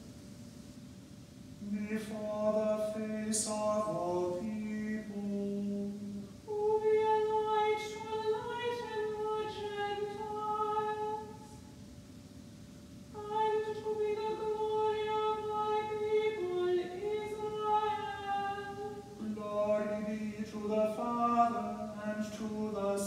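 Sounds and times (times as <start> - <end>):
high voice chanting: 1.6 - 11.6, 13.2 - 23.0
low voice chanting: 1.6 - 11.6, 13.2 - 23.0.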